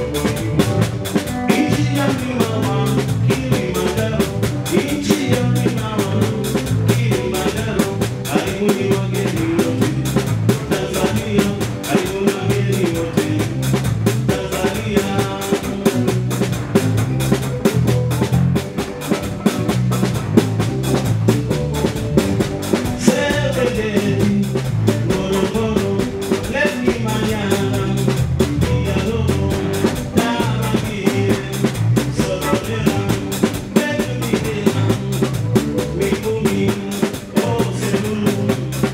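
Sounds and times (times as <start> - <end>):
person singing: 0.0 - 16.9, 22.8 - 38.9
drum kit beat: 0.0 - 38.9
live band playing dance music: 0.0 - 38.9.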